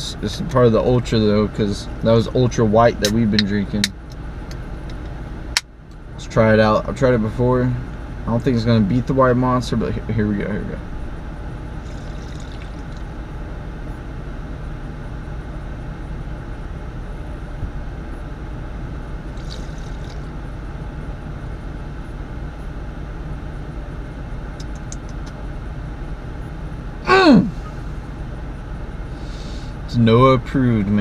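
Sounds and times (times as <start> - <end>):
idling vehicle hum: 0.0 - 31.0.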